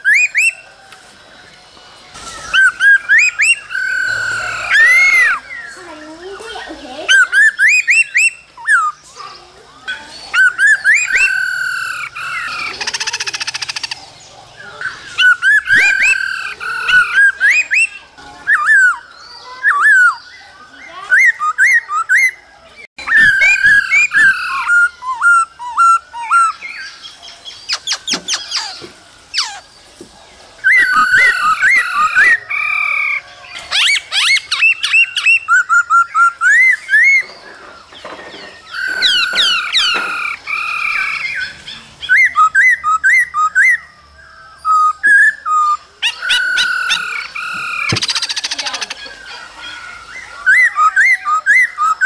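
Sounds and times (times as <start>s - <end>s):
bird singing whistled phrases: 0.0s - 0.7s, 2.2s - 14.0s, 14.6s - 29.6s, 30.6s - 37.4s, 38.4s - 52.0s.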